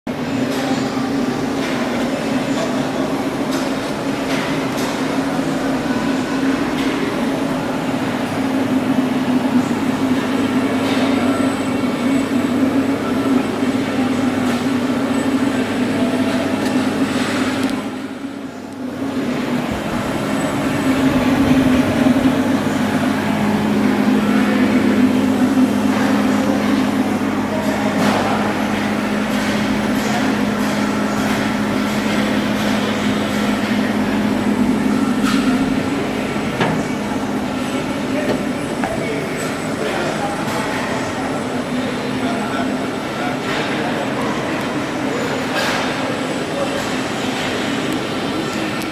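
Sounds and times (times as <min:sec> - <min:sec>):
boring mill humming: 0:00.1 - 0:48.8.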